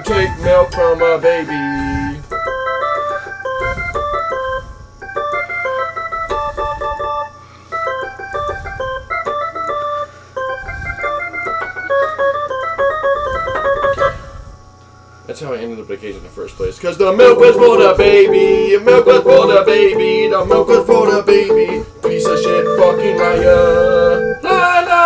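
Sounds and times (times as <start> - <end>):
electronic organ keyboard notes: 0.0 - 14.4, 17.2 - 25.0.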